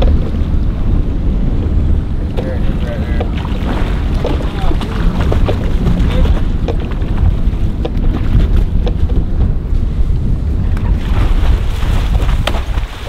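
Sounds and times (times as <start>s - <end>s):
boat rumble: 0.0s - 13.0s
water sloshing against hull: 0.0s - 13.0s
wind buffeting microphone: 0.0s - 13.0s.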